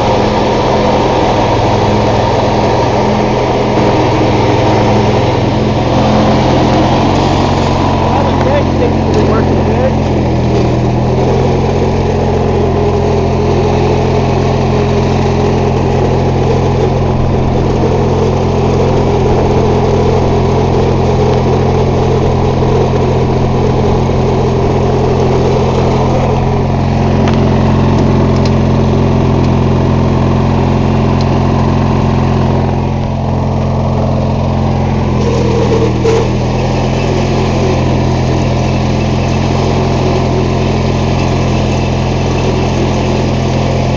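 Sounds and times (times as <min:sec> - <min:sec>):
lawn tractor engine running: 0:00.0 - 0:43.9.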